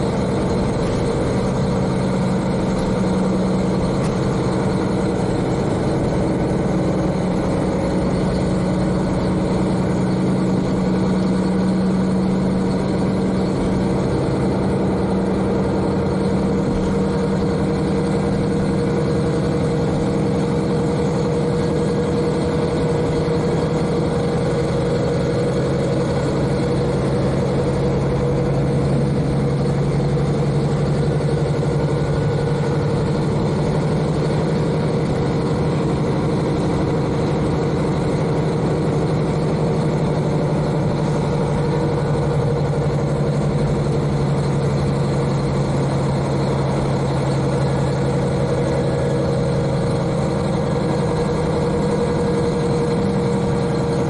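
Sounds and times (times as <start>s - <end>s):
diesel railcar engine running: 0.0s - 54.0s
train running noise: 0.0s - 54.0s.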